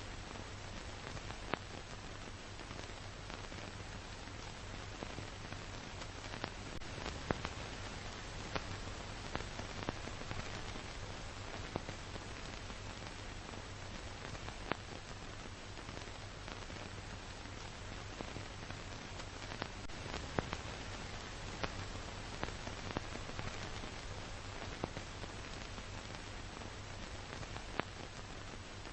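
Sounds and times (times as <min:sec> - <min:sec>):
steady film hiss: 0:00.0 - 0:28.9.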